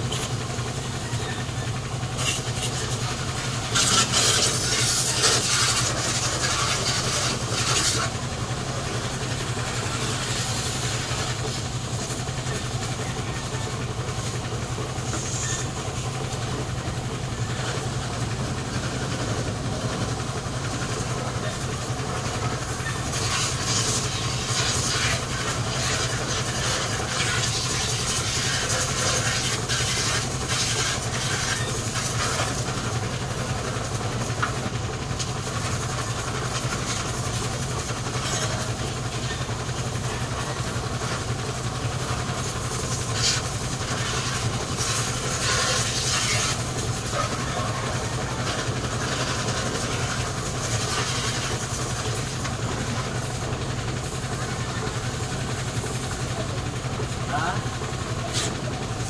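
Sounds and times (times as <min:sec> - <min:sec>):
hose water spraying on metal: 0:00.0 - 0:59.0
low motor hum: 0:00.0 - 0:59.0.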